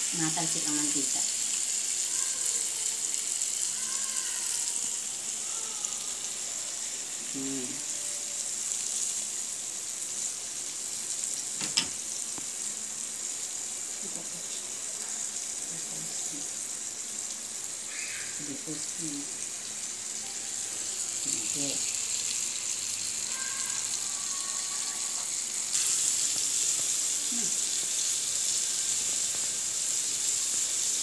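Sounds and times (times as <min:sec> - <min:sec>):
fish frying in hot oil: 0:00.0 - 0:31.0.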